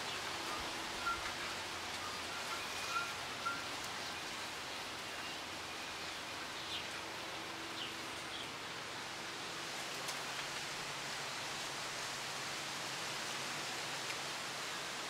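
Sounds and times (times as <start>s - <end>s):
breeze rustling leaves: 0.0s - 15.0s.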